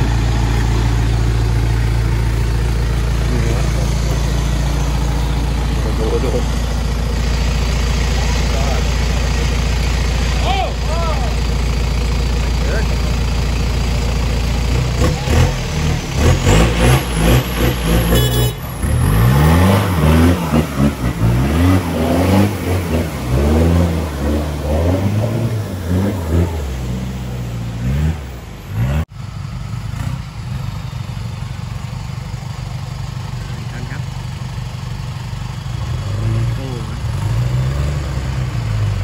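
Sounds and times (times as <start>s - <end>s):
off-road engine revving: 0.0s - 39.0s
steady engine noise: 0.0s - 39.0s.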